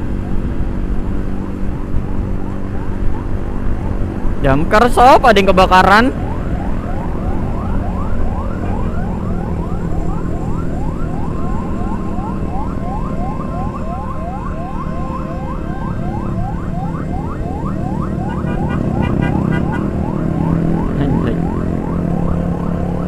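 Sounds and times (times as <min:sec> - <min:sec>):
engine and wind rumble: 0:00.0 - 0:23.0
fire engine siren yelping: 0:00.0 - 0:23.0.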